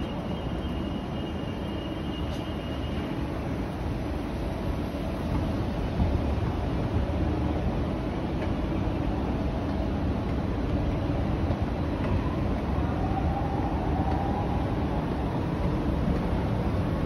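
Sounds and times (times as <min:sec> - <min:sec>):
machinery rumble and hiss: 0:00.0 - 0:17.0.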